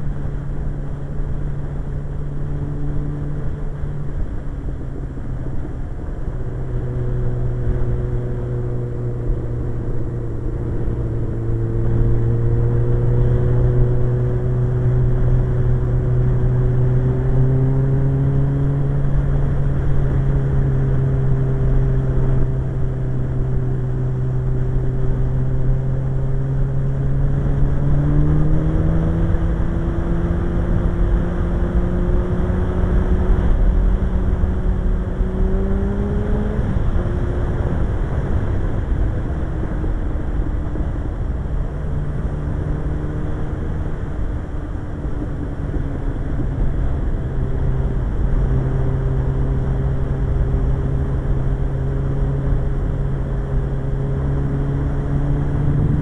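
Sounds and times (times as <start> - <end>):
motorcycle engine running: 0.0 - 56.0
wind rumbling on microphone: 0.0 - 56.0.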